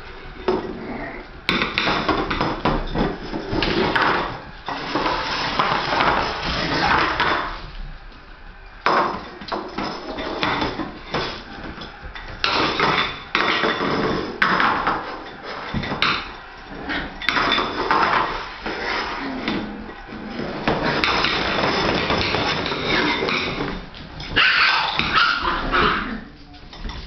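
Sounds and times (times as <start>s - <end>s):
puppies scrabbling on tiles: 0.0s - 27.0s
toy clattering and scraping: 1.5s - 7.8s, 8.9s - 27.0s.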